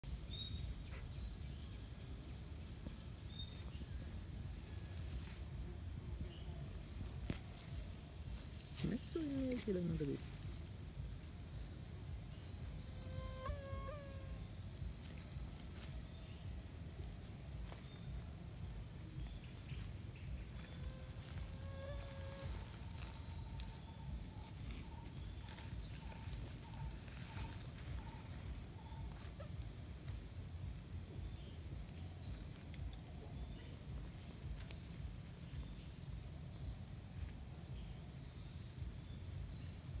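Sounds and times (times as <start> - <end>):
high-pitched insect drone: 0.1 - 40.0.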